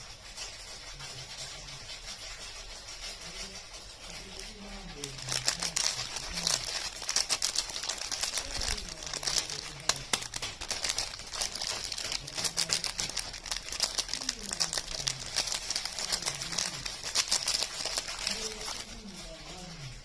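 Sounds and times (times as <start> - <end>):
wrappers crinkling: 1.3 - 20.0.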